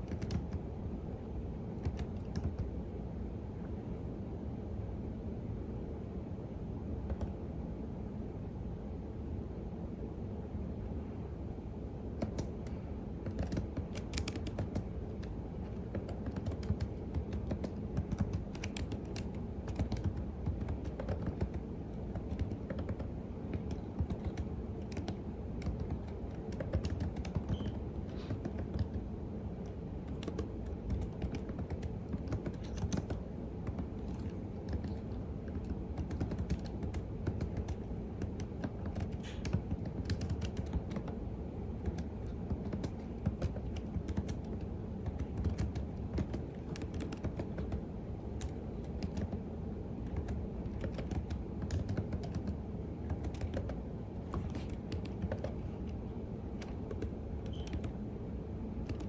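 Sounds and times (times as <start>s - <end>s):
keyboard typing: 0.0s - 0.7s, 1.8s - 2.8s, 7.0s - 7.4s, 12.1s - 58.0s, 58.7s - 59.0s
low background rumble: 0.0s - 59.0s.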